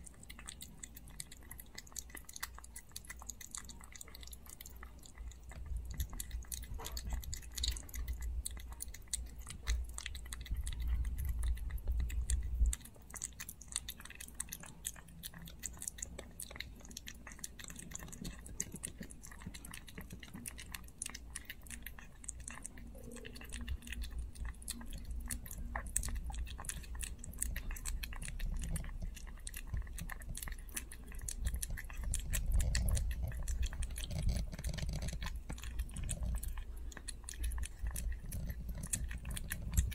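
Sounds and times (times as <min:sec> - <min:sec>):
puppy chewing wet food: 0:00.0 - 0:39.9.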